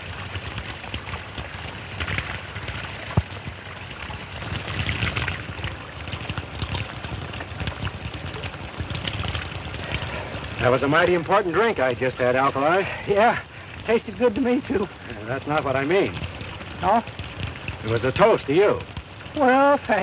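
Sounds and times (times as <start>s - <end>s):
old film soundtrack hiss: 0.0s - 20.0s
water splashing: 0.0s - 20.0s.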